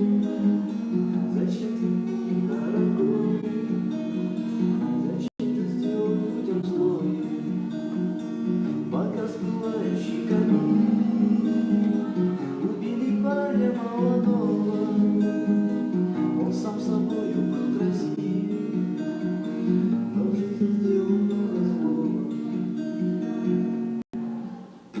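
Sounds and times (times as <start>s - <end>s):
acoustic guitar playing chords: 0.0s - 25.0s.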